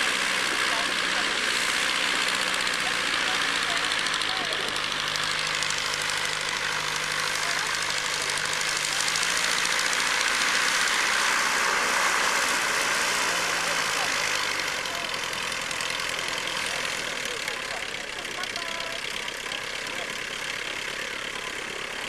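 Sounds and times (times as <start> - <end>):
piston aircraft engine: 0.0 - 22.0.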